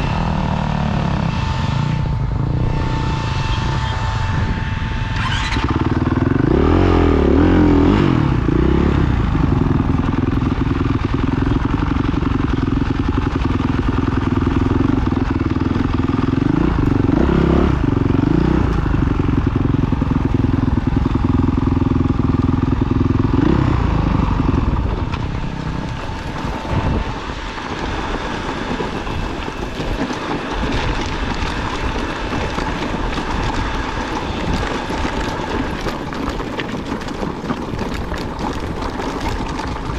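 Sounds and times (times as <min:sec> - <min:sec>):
off-road motorcycle engine running: 0:00.0 - 0:39.9.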